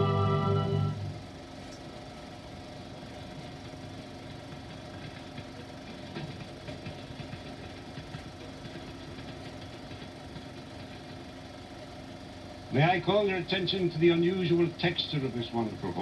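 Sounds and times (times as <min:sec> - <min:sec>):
film projector hum and hiss: 0:00.0 - 0:16.0.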